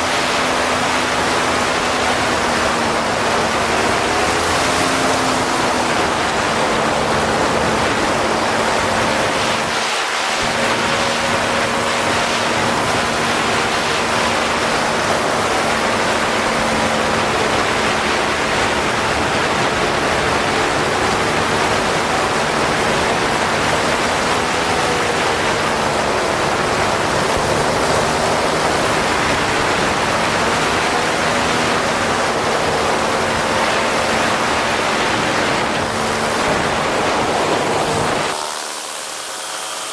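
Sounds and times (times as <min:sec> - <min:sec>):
wind rush on microphone: 0:00.0 - 0:39.8
paramotor engine droning: 0:00.0 - 0:39.9.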